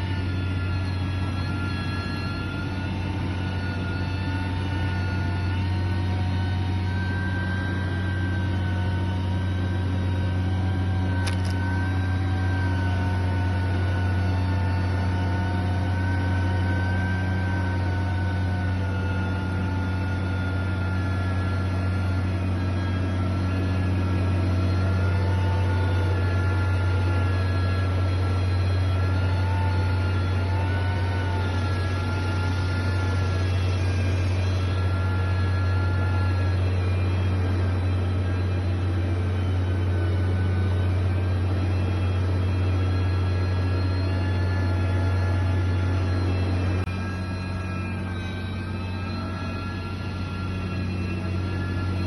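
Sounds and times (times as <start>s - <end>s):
heavy machine engine drone: 0.0s - 52.0s
thin whining tones: 0.0s - 52.0s.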